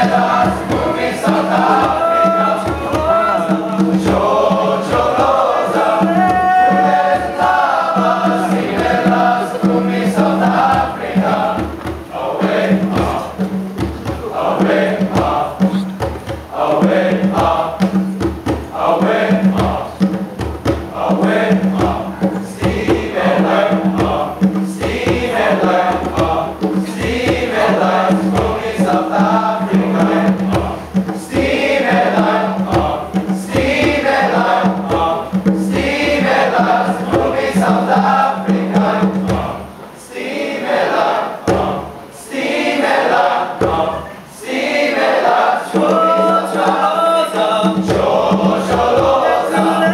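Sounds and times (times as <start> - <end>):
boys' choir singing: 0.0 - 49.9.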